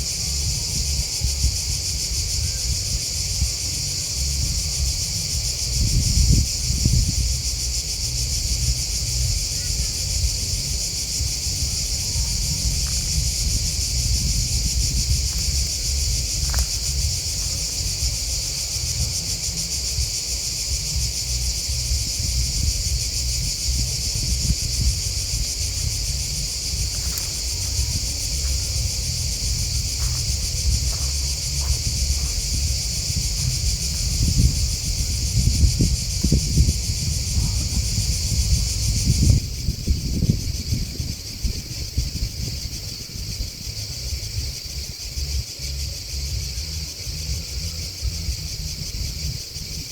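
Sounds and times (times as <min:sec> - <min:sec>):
constant low rumble: 0:00.0 - 0:49.9
crickets and grasshoppers chirping: 0:00.0 - 0:49.9.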